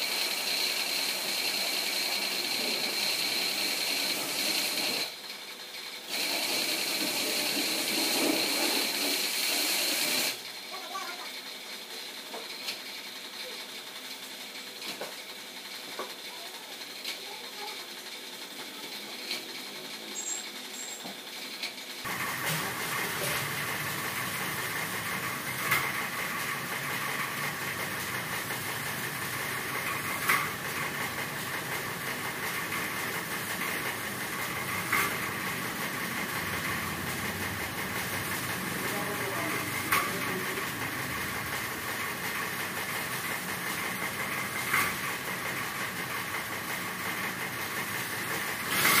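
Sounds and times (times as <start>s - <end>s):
machine running with a hiss: 0.0s - 49.0s.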